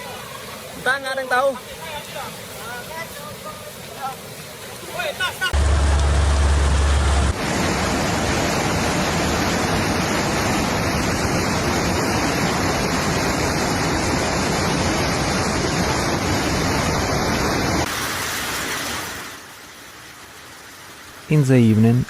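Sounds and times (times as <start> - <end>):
water rushing in a storm: 0.0 - 22.0.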